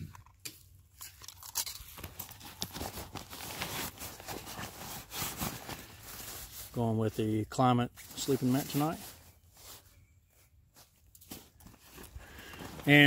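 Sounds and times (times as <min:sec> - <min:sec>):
gear rustling and crinkling: 0:00.1 - 0:13.0.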